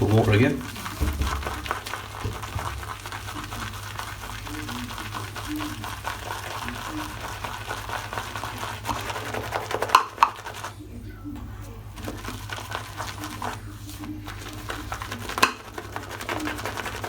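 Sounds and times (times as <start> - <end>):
shaving brush whipping lather: 0.0 - 10.9, 11.6 - 17.0.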